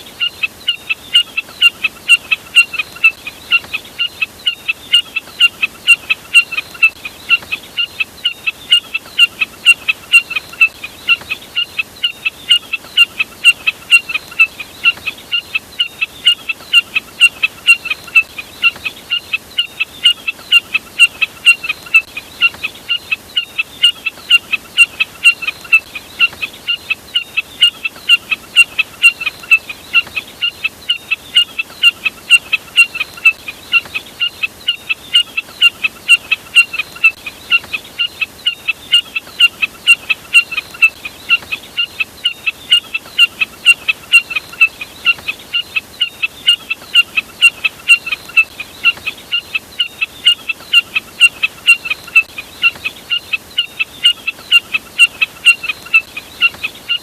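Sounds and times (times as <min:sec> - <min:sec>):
snipe calling: 0:00.0 - 0:57.0.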